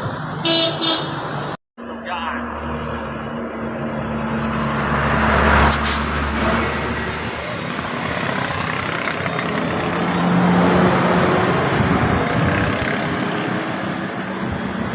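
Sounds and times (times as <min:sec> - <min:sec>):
bus engine running: 0:00.0 - 0:14.9
road traffic noise: 0:00.0 - 0:14.9.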